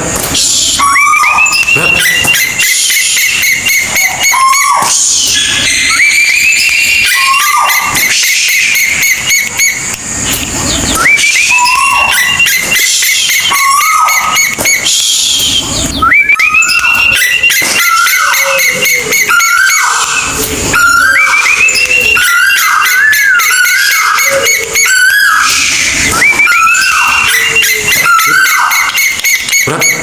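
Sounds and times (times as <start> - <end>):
bird rising whistles: 0.4 - 29.7
fine high chirps: 0.4 - 30.0.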